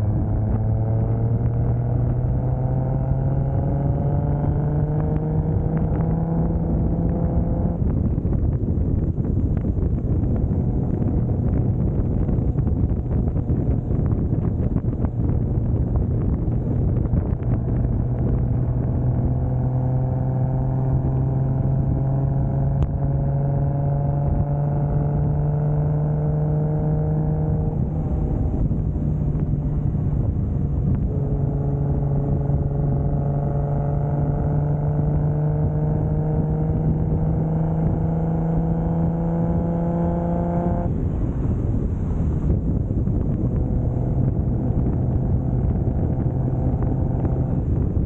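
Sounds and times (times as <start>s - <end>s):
car engine accelerating: 0.0s - 48.0s
road and wind noise: 0.0s - 48.0s.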